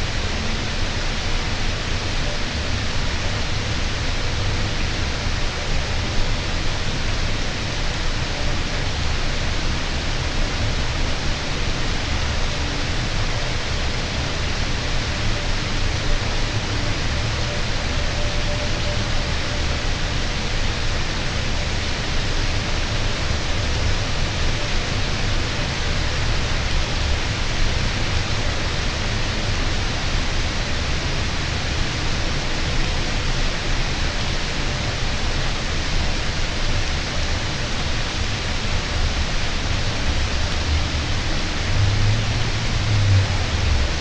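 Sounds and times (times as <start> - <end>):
steady rain hissing: 0.0 - 44.0.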